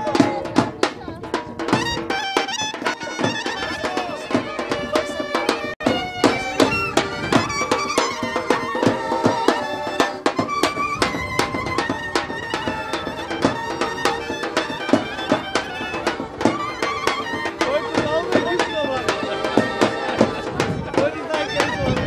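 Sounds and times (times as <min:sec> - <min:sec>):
folk dance music: 0:00.0 - 0:22.0
steady drum beat: 0:00.0 - 0:22.0
melody instrument playing: 0:01.7 - 0:20.6.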